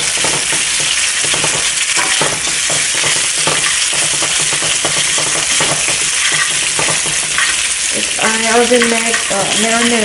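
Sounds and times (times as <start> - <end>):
pork sizzling in hot oil: 0.0 - 10.0
utensil scraping against pan: 0.0 - 10.0.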